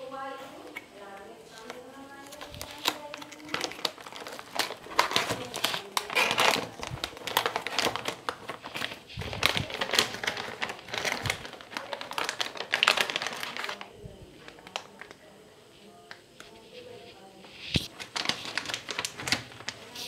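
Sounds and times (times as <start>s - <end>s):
plastic packaging crinkling: 0.4s - 15.3s, 16.1s - 20.0s.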